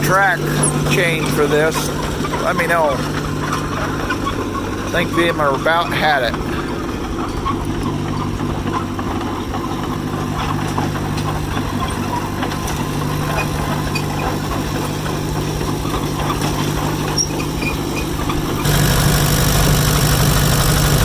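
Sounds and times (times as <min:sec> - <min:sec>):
crawler engine running: 0:00.0 - 0:21.0.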